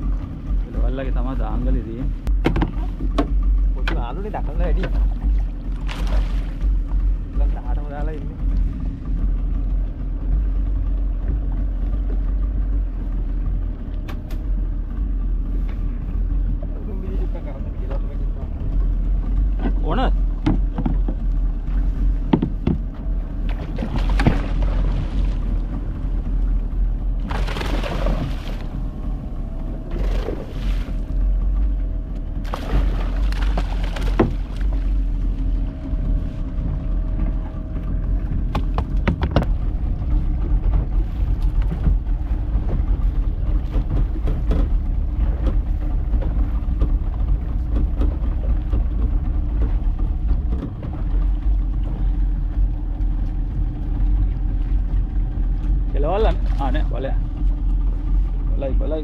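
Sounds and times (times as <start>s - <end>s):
boat motor rumbling: 0.0s - 59.0s.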